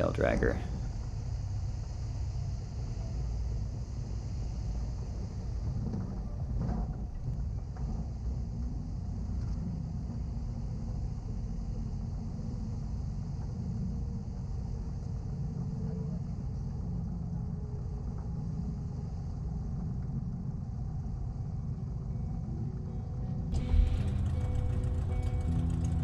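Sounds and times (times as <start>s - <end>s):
small aircraft engine rumbling: 0.0s - 26.0s.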